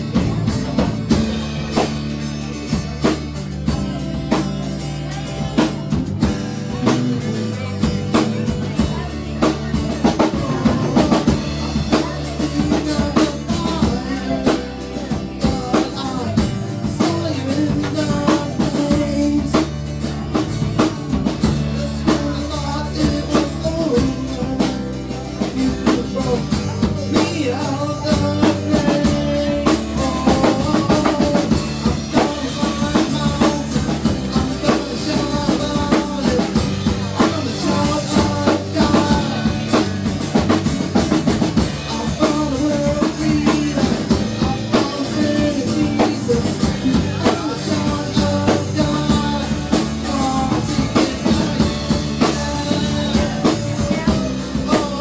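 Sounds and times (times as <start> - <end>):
drum kit beat: 0.0 - 55.0
live band playing: 0.0 - 55.0.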